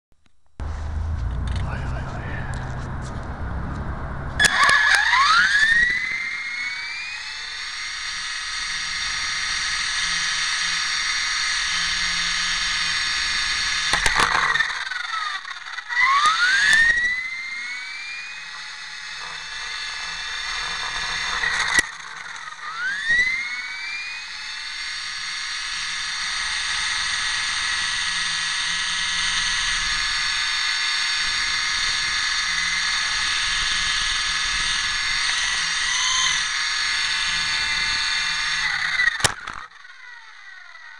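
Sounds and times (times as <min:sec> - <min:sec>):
model helicopter rotor whine: 0:03.5 - 0:40.9.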